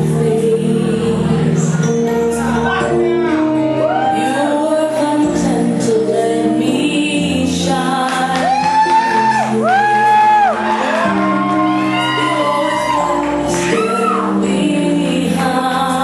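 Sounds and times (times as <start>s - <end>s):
backing track: 0.0s - 16.0s
person singing long notes: 2.4s - 16.0s.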